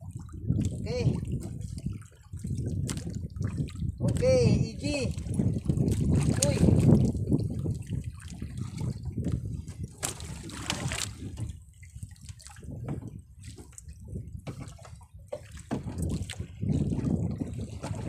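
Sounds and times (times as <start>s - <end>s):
water sloshing against a boat: 0.0s - 18.0s.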